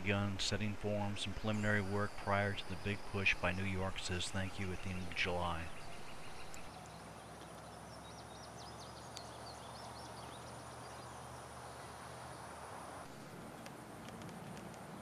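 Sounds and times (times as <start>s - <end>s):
small birds chirping: 0.0s - 12.6s
background hiss: 0.0s - 15.0s
faint low hum: 0.0s - 15.0s.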